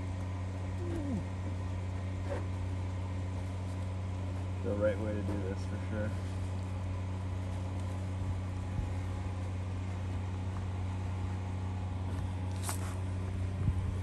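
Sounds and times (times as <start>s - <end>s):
engine idling hum: 0.0s - 14.0s.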